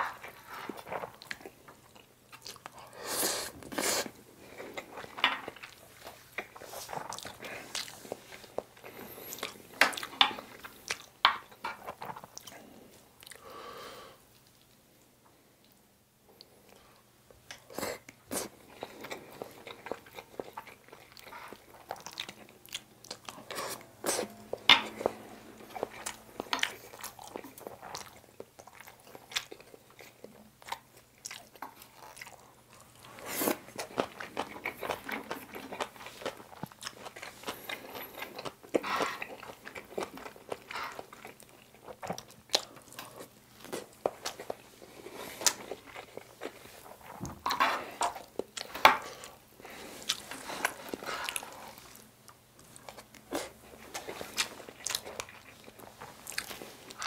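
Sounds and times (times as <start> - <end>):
person chewing wetly: 0.0 - 3.0, 3.6 - 13.4, 17.4 - 47.3, 47.9 - 57.0.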